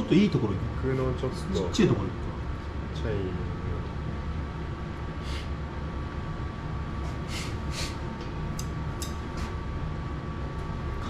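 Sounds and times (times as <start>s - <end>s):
kitchen fan humming: 0.0s - 11.0s.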